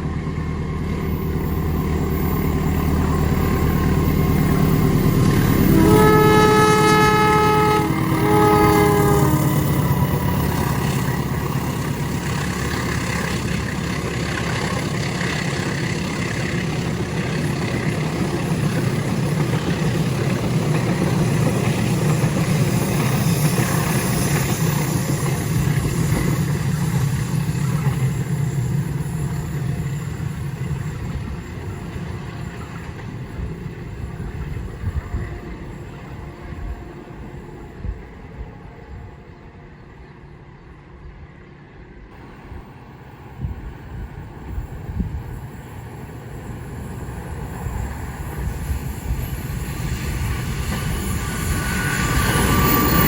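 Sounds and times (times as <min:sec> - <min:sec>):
diesel locomotive engine: 0:00.0 - 0:53.0
wheels rumbling on rails: 0:00.0 - 0:53.0.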